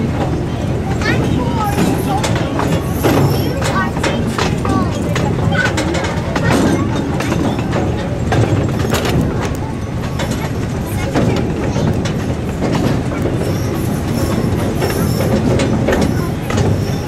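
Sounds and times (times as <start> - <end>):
train rumbling on track: 0.0 - 17.0
wheels clicking over rails: 0.0 - 17.0.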